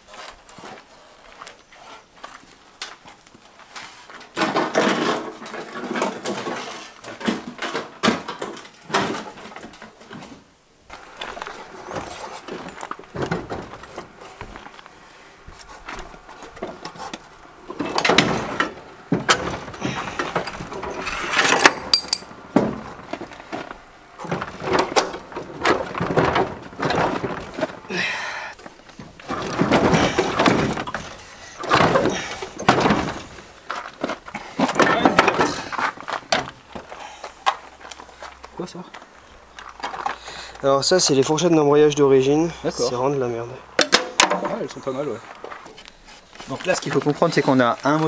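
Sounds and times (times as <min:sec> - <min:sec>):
clattering and scraping bursts: 0:00.0 - 0:27.9, 0:28.5 - 0:40.5.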